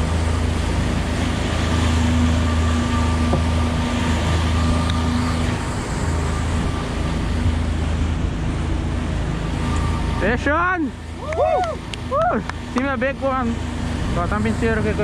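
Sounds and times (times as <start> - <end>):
boat engine humming with whine: 0.0 - 15.0
wind and water hiss: 0.0 - 15.0.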